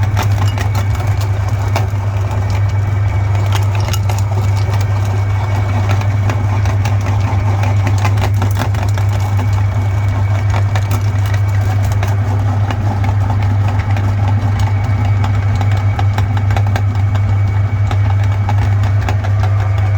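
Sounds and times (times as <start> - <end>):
crackling clicks of crushing chocolate: 0.0 - 19.9
meat grinder motor hum: 0.0 - 19.9.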